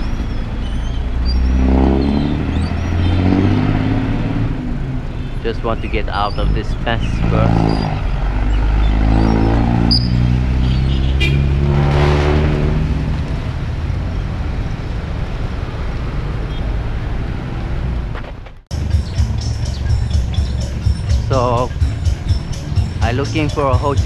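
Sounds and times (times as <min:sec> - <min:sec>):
road traffic noise: 0:00.0 - 0:24.0
vehicle engine revving: 0:00.0 - 0:24.0.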